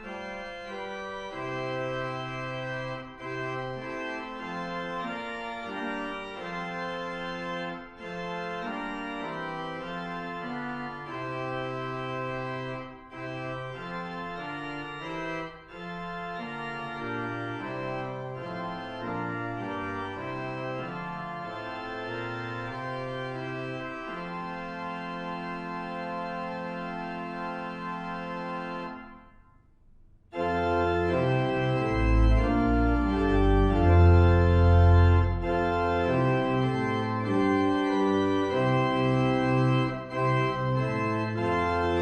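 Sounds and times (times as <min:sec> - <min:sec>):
organ playing slow chords: 0:00.0 - 0:29.3, 0:30.3 - 0:42.0.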